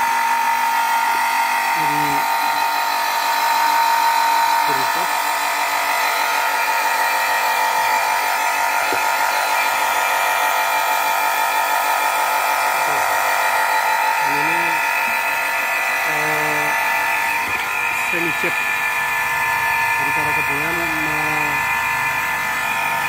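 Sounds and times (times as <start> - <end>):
water pump high whine: 0.0 - 23.0.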